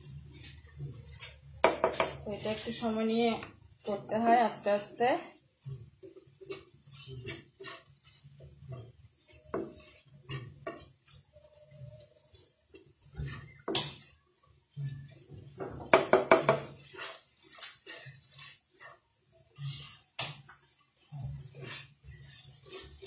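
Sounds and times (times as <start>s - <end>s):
spatula scraping a frying pan: 0.0s - 23.0s.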